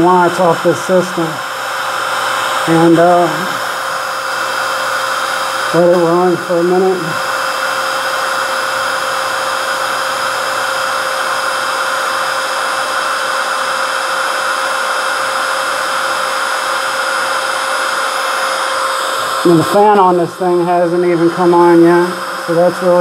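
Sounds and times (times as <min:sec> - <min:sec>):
heat gun fan whining: 0:00.0 - 0:23.0.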